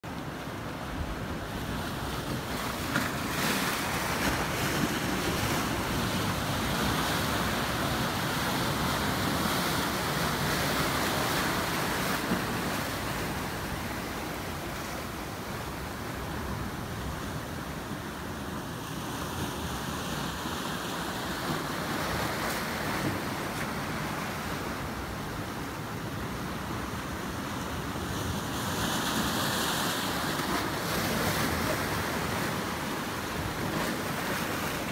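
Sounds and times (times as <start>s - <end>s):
ocean surf breaking: 0.1s - 34.9s.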